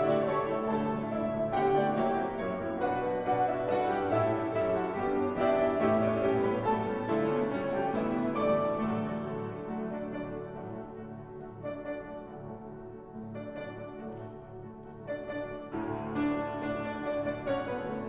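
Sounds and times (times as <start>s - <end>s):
pianos playing classical piece: 0.0s - 18.0s.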